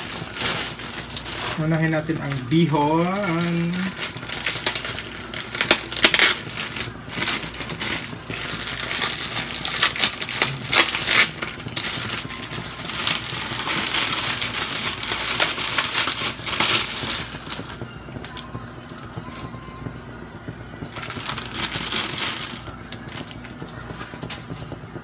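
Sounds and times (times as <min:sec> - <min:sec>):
plastic bag crinkling: 0:00.0 - 0:19.0, 0:20.8 - 0:24.2
dried noodles crackling and snapping: 0:00.0 - 0:19.5, 0:20.1 - 0:24.5.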